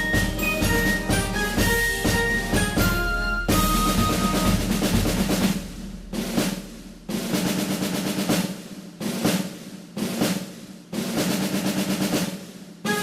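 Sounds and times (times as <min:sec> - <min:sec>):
snare drum rolls: 0:00.0 - 0:13.0.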